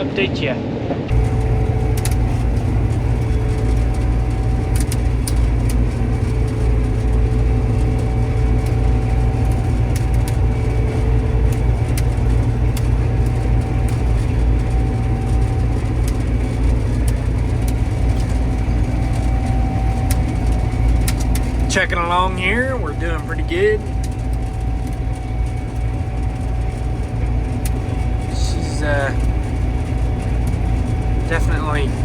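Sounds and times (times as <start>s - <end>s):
combine harvester drone: 0.0s - 32.0s
faint steady whines: 0.0s - 32.0s.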